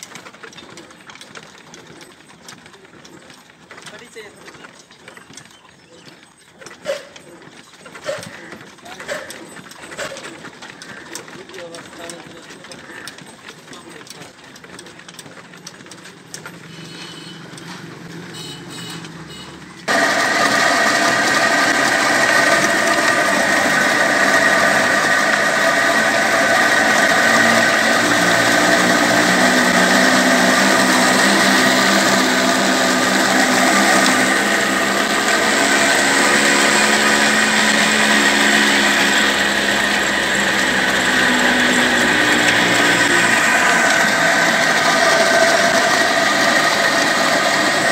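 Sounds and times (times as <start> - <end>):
belt-driven machinery whine: 0.0 - 47.9
diesel engine running: 6.7 - 47.9.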